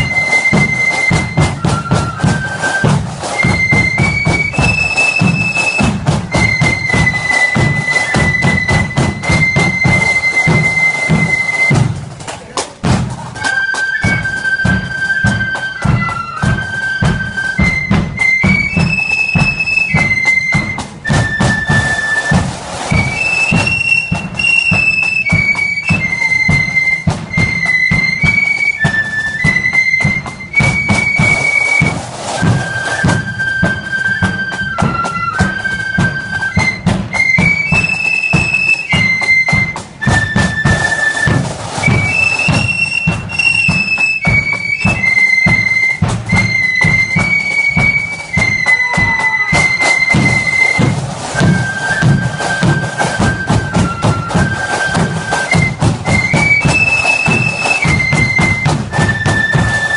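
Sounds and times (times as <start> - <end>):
flutes playing melody: 0.0 - 59.9
steady drum beat: 0.0 - 59.9.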